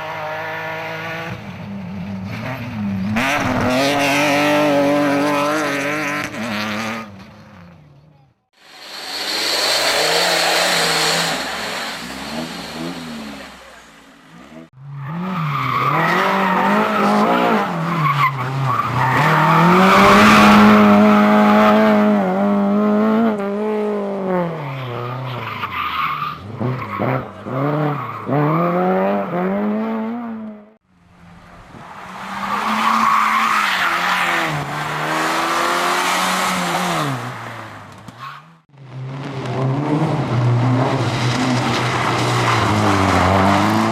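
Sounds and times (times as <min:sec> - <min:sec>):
car engines revving hard: 0:00.0 - 0:07.8, 0:08.6 - 0:25.5, 0:26.3 - 0:30.8, 0:31.6 - 0:38.2, 0:38.9 - 0:43.9.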